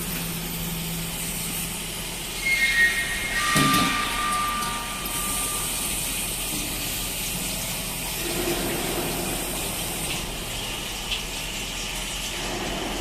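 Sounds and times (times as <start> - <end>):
coolant rushing: 0.0 - 13.0
low machine hum: 0.0 - 13.0.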